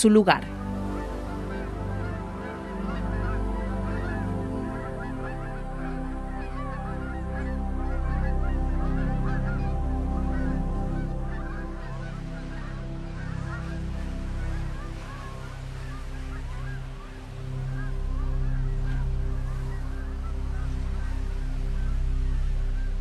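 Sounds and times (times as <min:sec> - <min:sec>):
music of long held chords: 0:00.0 - 0:23.0.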